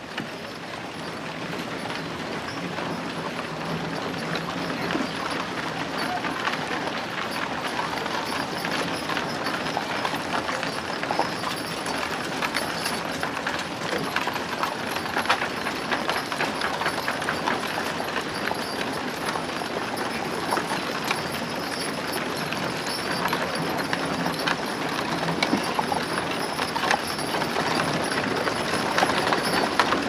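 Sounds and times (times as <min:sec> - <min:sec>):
horses' hooves clip-clopping on dirt: 0:00.0 - 0:30.0
street bustle: 0:00.0 - 0:30.0.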